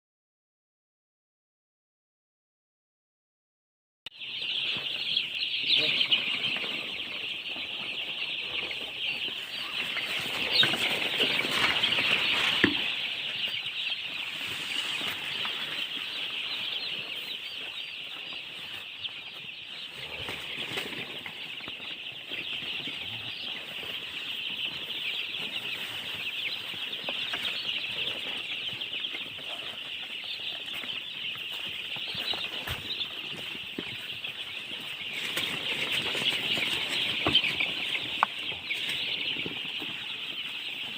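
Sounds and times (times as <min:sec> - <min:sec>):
baby chicks peeping: 0:04.1 - 0:40.9.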